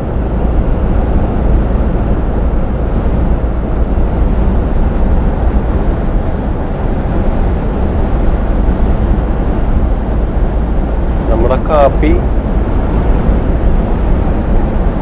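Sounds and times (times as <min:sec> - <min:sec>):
lorry engine and tyre drone: 0:00.0 - 0:15.0.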